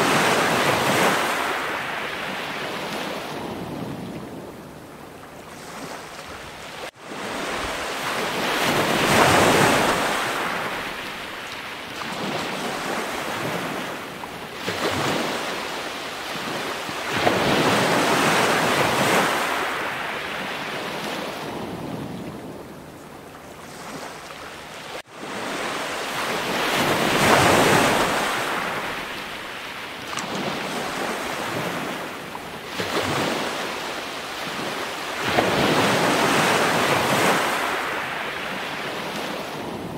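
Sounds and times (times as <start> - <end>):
ocean waves washing in: 0.0 - 22.8, 23.6 - 39.9.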